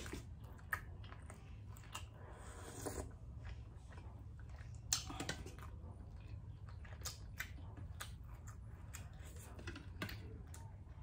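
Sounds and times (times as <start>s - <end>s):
low steady hum: 0.0s - 11.0s
person chewing: 0.0s - 11.0s.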